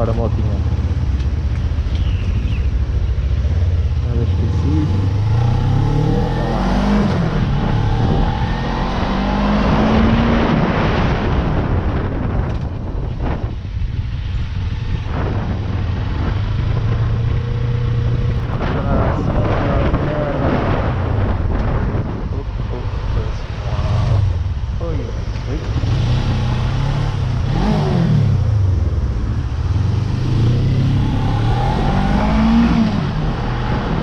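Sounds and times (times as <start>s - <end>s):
motorcycle engine revving: 0.0s - 12.4s, 14.3s - 34.0s
wind and road noise: 0.0s - 34.0s.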